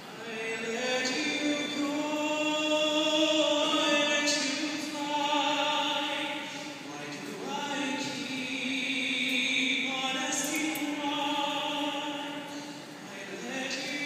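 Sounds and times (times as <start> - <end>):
man singing a cappella: 0.1 - 14.0.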